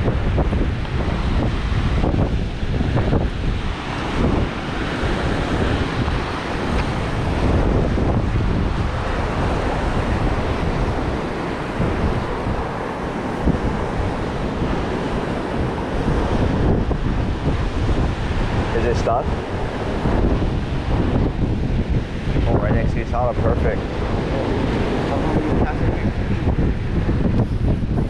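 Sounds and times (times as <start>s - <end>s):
surf washing over rocks: 0.0s - 28.0s
wind buffeting microphone: 0.0s - 28.0s.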